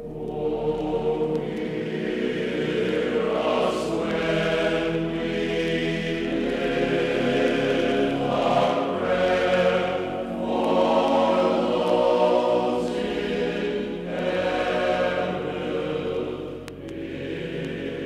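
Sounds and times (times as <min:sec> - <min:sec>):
choir singing held chords: 0:00.0 - 0:18.0.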